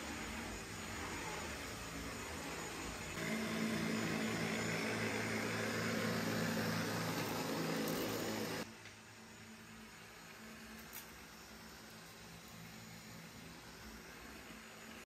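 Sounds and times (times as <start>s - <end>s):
motor drone with low hum: 0.0s - 15.0s.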